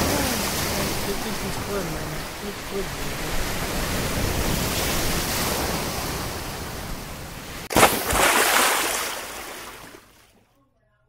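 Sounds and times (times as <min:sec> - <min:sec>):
waves breaking: 0:00.0 - 0:10.4.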